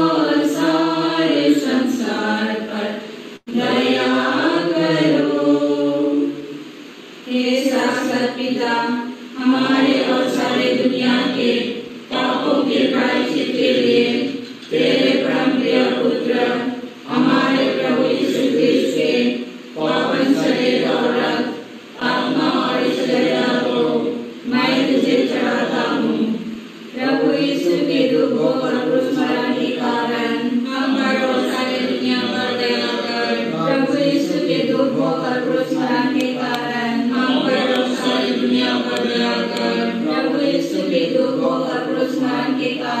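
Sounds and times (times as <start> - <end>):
congregation chanting a prayer: 0.0 - 43.0.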